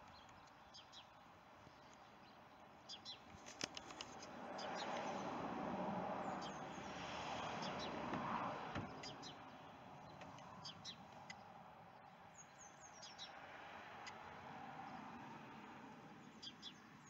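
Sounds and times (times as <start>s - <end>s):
small birds chirping: 0.0s - 5.4s, 6.2s - 17.0s.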